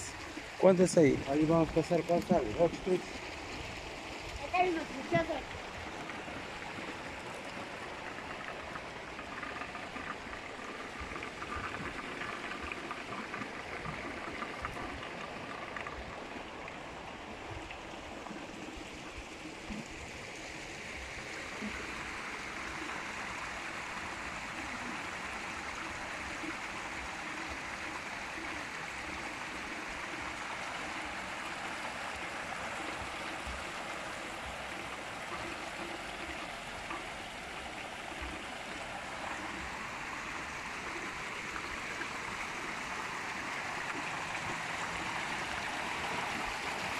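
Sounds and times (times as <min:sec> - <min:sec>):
water pouring into pond: 0:00.0 - 0:46.9.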